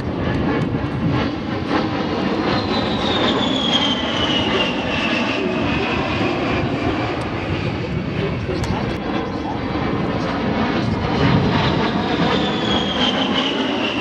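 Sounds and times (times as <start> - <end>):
jet engine roar and whine: 0.0 - 14.0.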